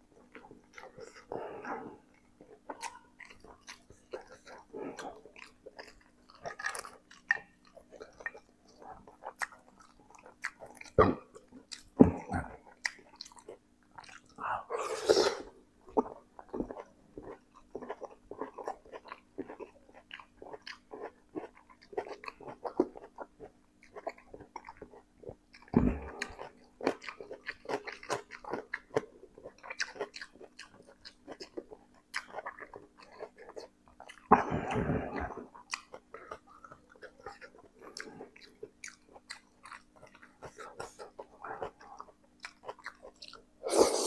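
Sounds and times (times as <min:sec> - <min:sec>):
man chewing noodles: 0:00.0 - 0:44.0.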